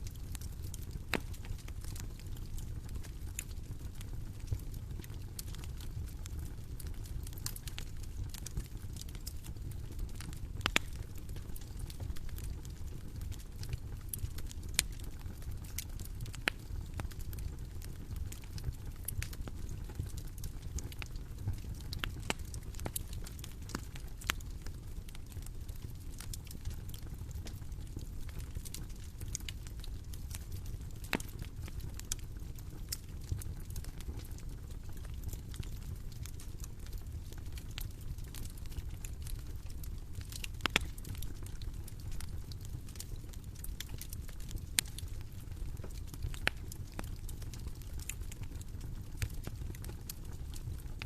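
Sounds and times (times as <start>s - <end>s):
bonfire crackling: 0.0s - 51.0s
low rumble of fire: 0.0s - 51.0s.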